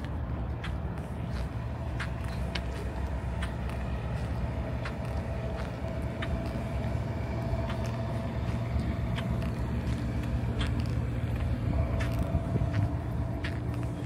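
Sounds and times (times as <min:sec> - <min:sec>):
engine idling rumble: 0:00.0 - 0:14.0
faint steady whine: 0:00.0 - 0:14.0.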